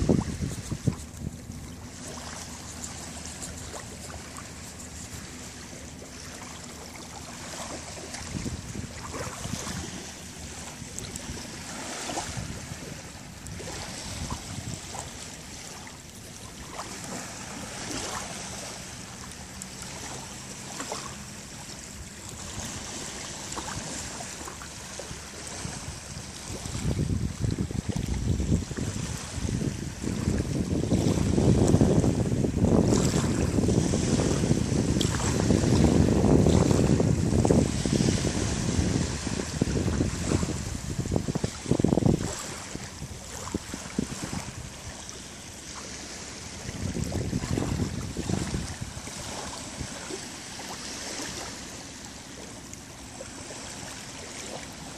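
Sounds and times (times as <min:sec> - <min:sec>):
small waves lapping on sand: 0:00.0 - 0:54.9.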